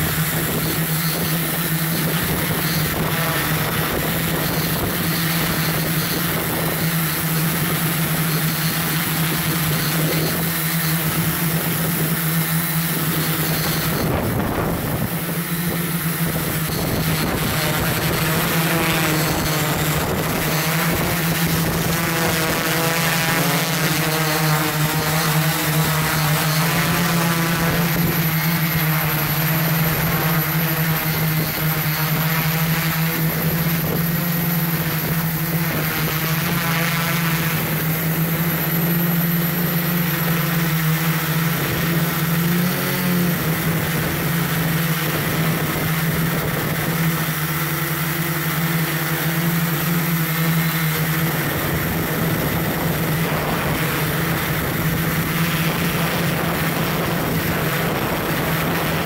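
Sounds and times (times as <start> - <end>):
drone motors humming: 0.0 - 59.0.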